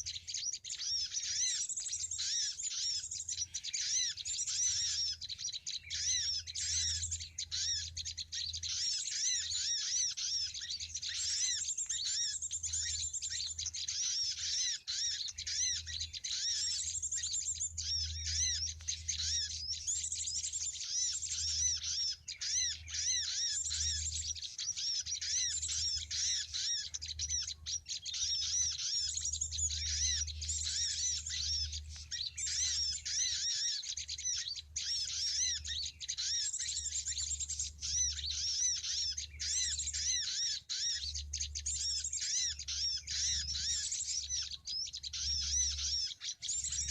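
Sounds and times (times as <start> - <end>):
birds chirping rapidly: 0.0 - 46.9.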